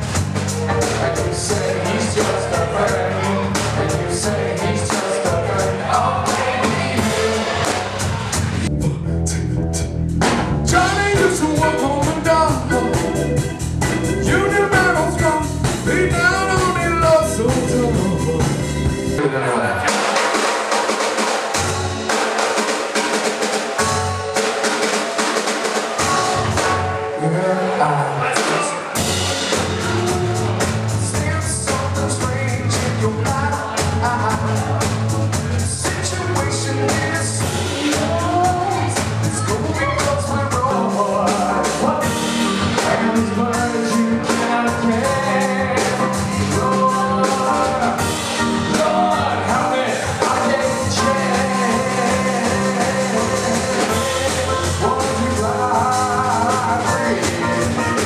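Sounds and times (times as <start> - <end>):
bass line: 0.0 - 19.3, 26.0 - 27.8, 28.4 - 58.0
live band playing: 0.0 - 58.0.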